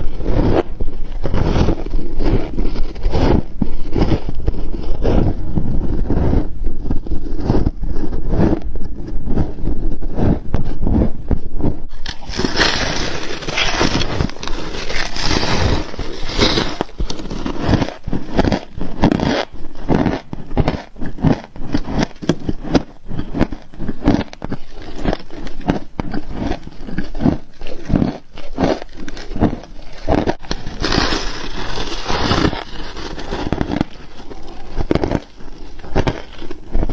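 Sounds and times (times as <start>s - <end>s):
frost being chewed crunching: 0.0s - 36.9s.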